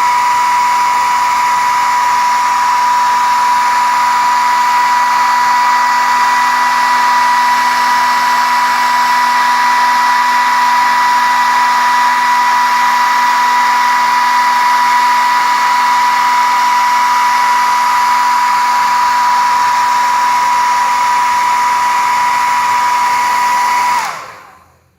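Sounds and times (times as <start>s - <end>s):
hair dryer running: 0.0s - 24.9s.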